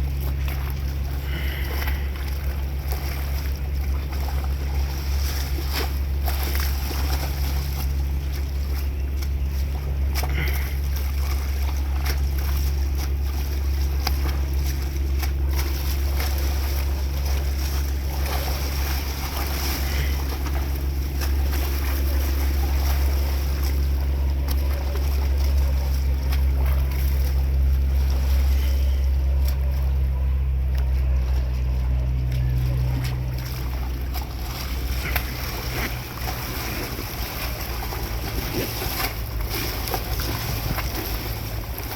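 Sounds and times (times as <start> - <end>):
boat engine droning: 0.0 - 41.9
water sloshing: 0.0 - 41.9.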